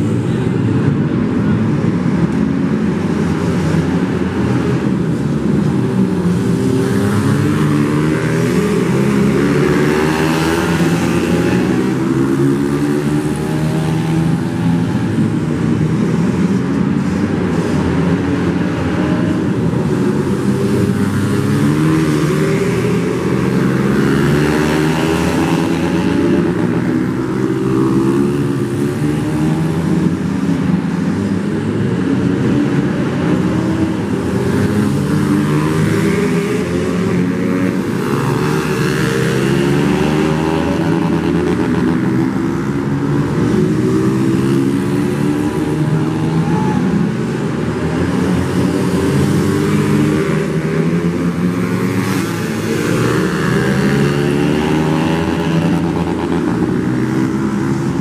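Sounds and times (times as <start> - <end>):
racing motorcycle engines: 0.0 - 58.0.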